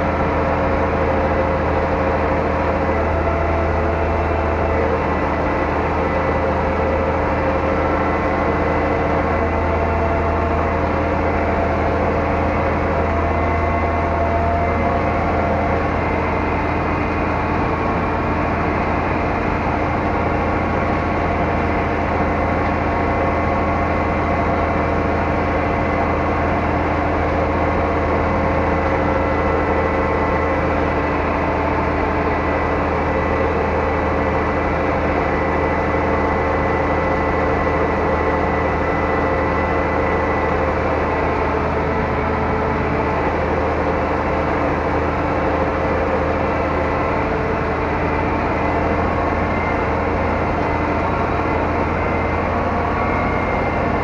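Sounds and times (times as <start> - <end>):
thin steady whine: 0.0 - 54.0
tractor diesel engine drone: 0.0 - 54.0.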